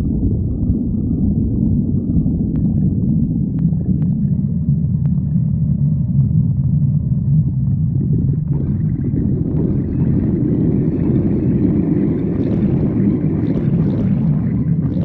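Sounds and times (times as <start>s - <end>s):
stomach growling: 0.0s - 15.0s.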